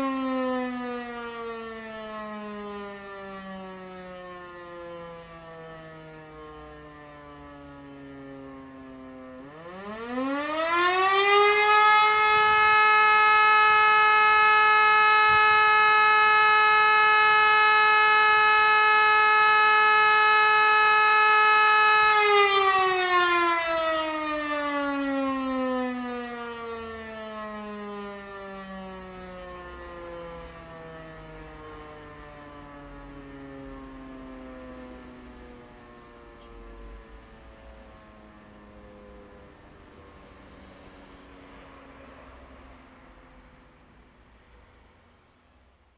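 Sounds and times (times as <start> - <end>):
civil defence siren wailing: 0.0 - 44.0.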